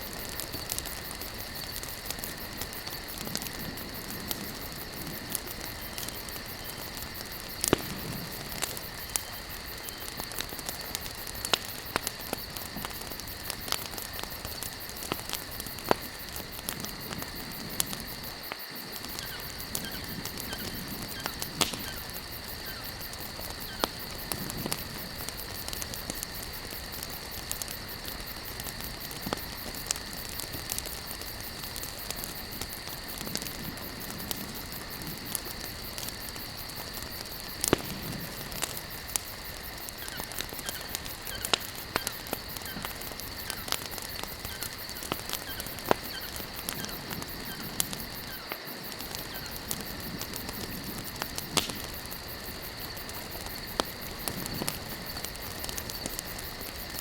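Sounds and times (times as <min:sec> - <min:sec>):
campfire crackling: 0:00.0 - 0:57.0
crickets chirring: 0:00.0 - 0:57.0
fire popping: 0:00.0 - 0:57.0.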